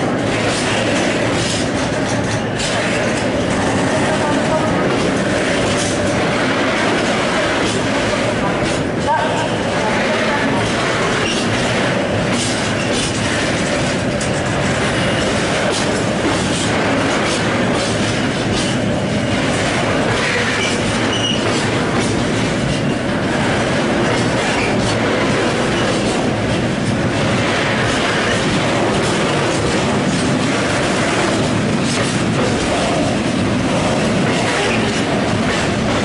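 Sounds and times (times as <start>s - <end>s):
wheels clicking over rail joints: 0.0s - 9.4s, 10.4s - 36.0s
train wheels rumbling on track: 0.0s - 36.0s.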